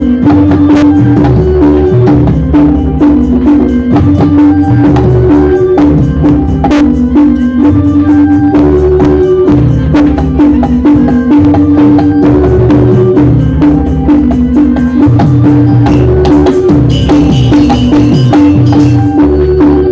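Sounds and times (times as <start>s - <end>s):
drums and woodblock percussion: 0.0s - 19.9s
melody over deep bass: 0.0s - 19.9s.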